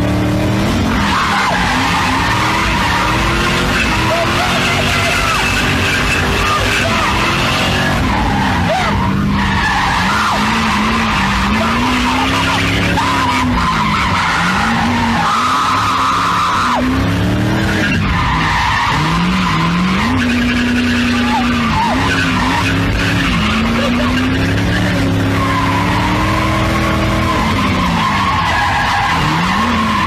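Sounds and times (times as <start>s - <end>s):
car engine revving: 0.0s - 30.0s
tyres squealing: 0.8s - 30.0s.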